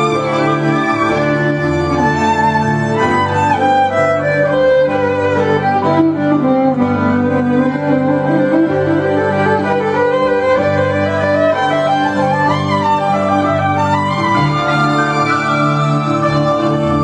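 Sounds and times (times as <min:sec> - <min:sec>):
violin melody with sliding notes: 0:00.0 - 0:17.0.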